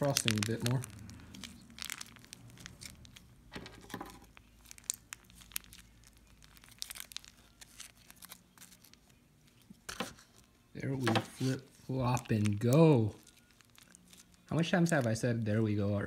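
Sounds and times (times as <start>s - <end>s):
plastic icing bag crinkling: 0.0s - 16.0s.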